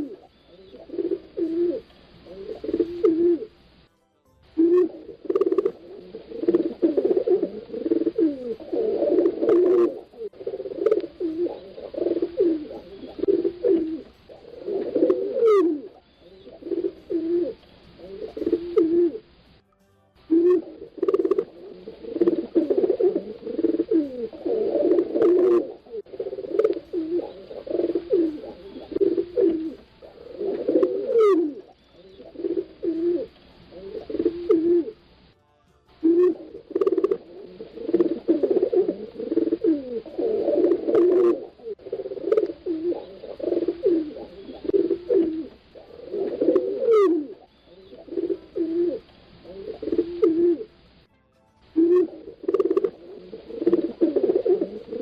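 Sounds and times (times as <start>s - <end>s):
pigeons cooing: 0.0s - 3.6s, 4.6s - 19.4s, 20.3s - 35.2s, 36.0s - 50.9s, 51.8s - 55.0s.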